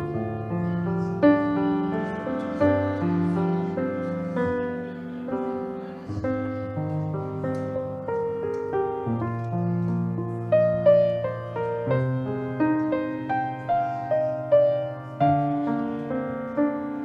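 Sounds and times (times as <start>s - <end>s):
slow gentle piano piece: 0.0s - 17.0s.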